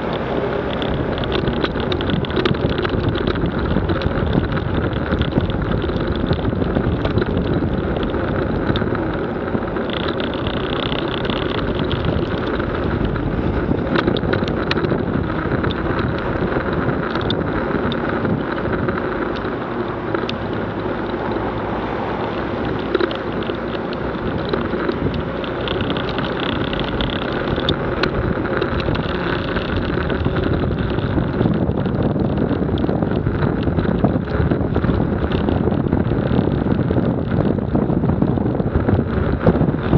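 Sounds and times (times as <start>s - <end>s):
tyres on wet road: 0.0s - 39.9s
vehicle engine: 0.0s - 39.9s
wind noise on microphone: 0.0s - 39.9s.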